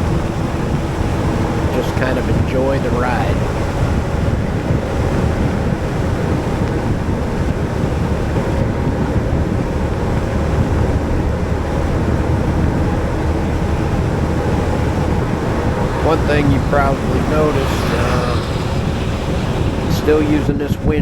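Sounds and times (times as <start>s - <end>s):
scooter engine: 0.0s - 20.7s
road noise: 0.0s - 21.0s
wind buffeting microphone: 0.0s - 21.0s.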